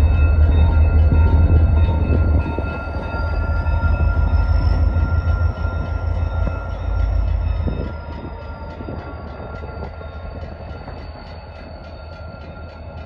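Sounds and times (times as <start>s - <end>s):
locomotive engine rumble: 0.0s - 13.0s.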